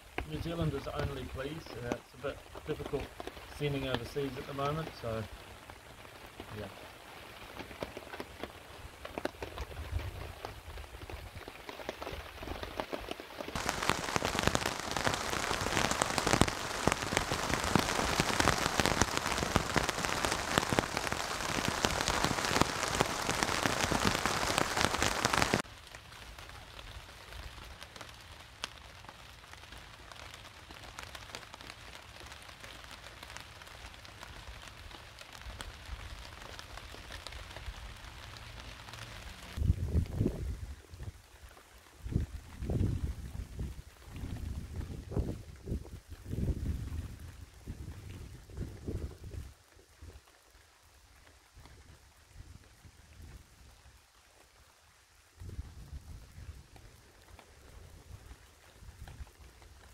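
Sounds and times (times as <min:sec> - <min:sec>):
heavy rain on a tarp: 0:00.0 - 0:59.9.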